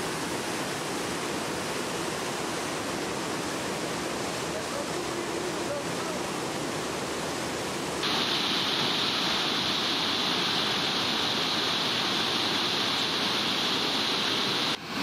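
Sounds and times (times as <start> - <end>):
creek rushing over boulders: 0.0 - 15.0.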